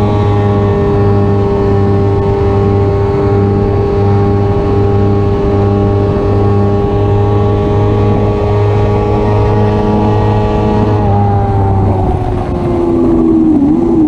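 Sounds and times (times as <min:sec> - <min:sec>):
motorcycle engine at high revs: 0:00.0 - 0:14.0
wind rushing: 0:00.0 - 0:14.0.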